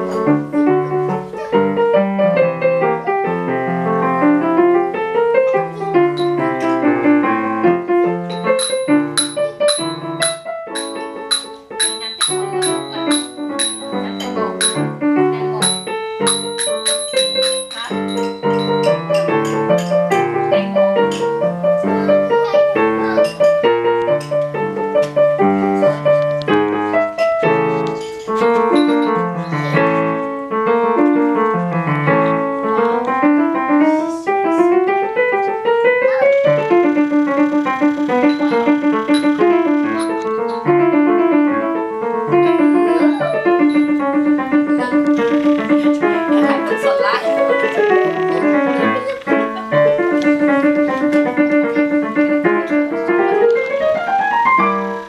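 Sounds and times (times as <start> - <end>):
digital piano playing: 0.0 - 55.0.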